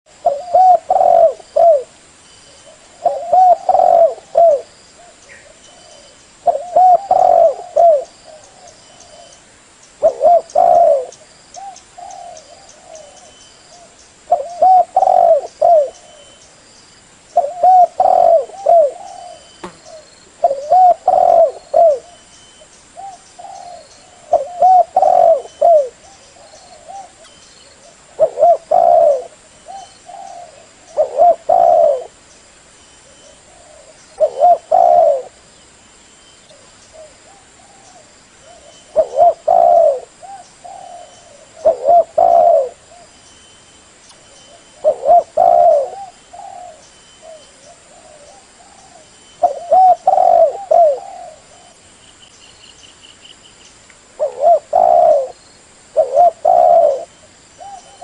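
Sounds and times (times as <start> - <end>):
dove cooing: 0.1 - 2.0, 2.6 - 9.4, 10.0 - 16.4, 17.3 - 22.2, 23.0 - 32.2, 33.0 - 35.4, 36.5 - 43.1, 44.5 - 51.8, 54.2 - 58.0.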